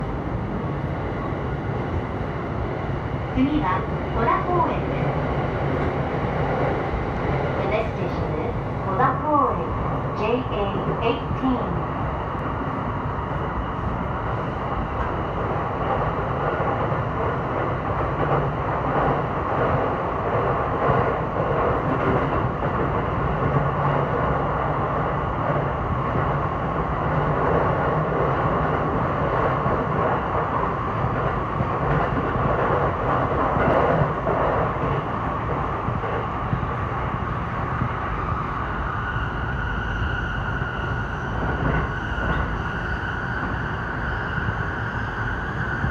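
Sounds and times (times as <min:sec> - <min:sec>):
train wheels rumbling on track: 0:00.0 - 0:45.9.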